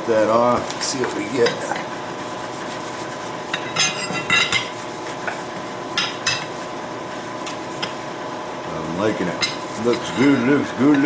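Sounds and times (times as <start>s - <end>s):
rag rubbing on metal: 0.6s - 8.0s, 9.3s - 11.0s.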